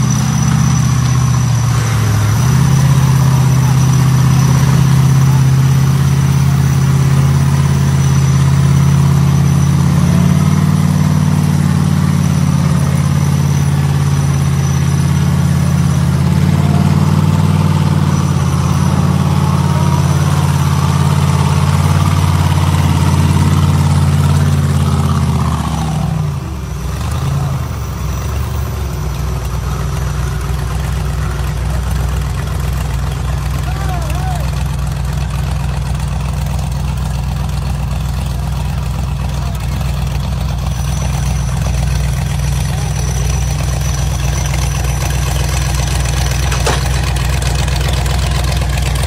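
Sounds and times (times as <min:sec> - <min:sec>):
buggy engine revving: 0:00.0 - 0:49.0
wheels spinning in mud: 0:00.0 - 0:49.0.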